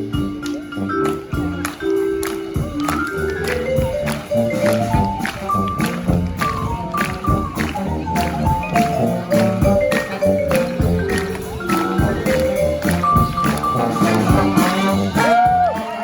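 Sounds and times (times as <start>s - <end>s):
low bass notes: 0.0s - 15.8s
horn melody: 0.0s - 16.0s
steady drumbeat: 0.0s - 16.0s.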